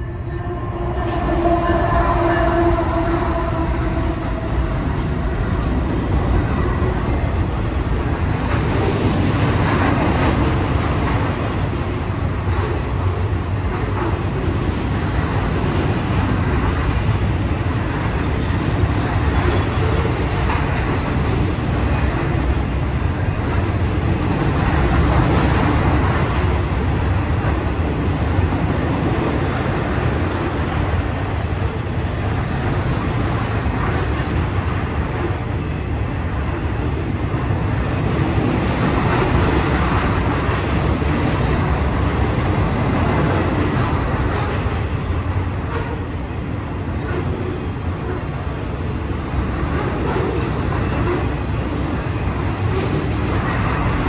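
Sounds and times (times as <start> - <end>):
train wheels rumbling and clattering: 0.7 - 54.0.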